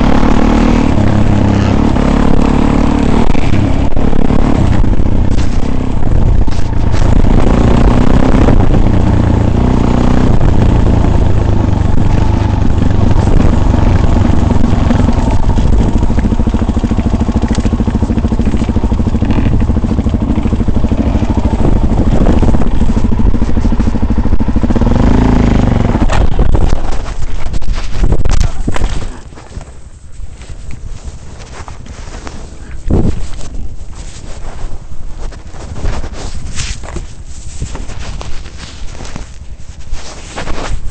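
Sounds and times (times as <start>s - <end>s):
off-road vehicle engine running: 0.0s - 40.9s
rattling and clatter: 0.0s - 40.9s.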